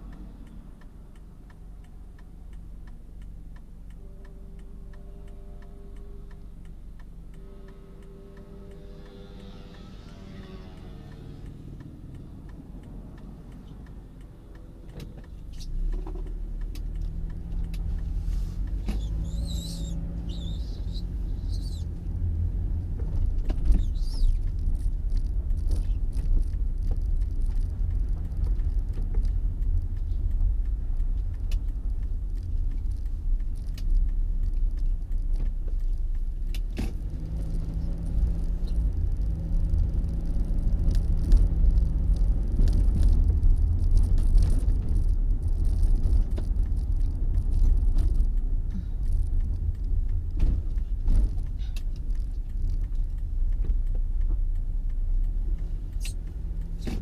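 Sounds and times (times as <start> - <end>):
small clicks: 0.0 - 57.0
vehicle low rumble: 0.0 - 57.0.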